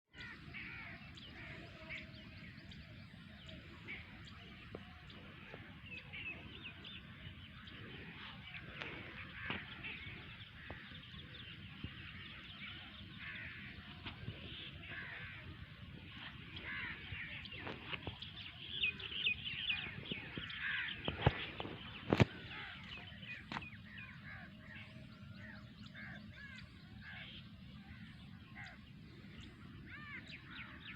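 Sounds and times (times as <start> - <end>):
birds chirping: 0.1 - 30.9.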